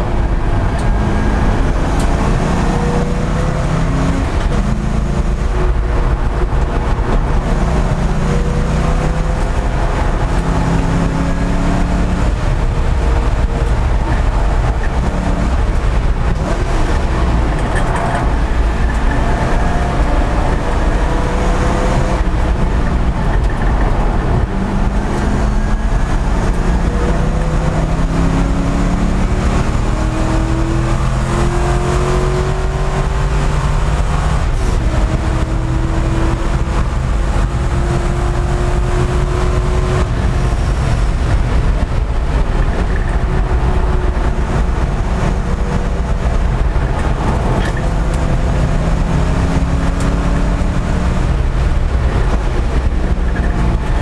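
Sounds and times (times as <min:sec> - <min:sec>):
race car engine revving: 0:00.0 - 0:54.0
road and wind noise: 0:00.0 - 0:54.0.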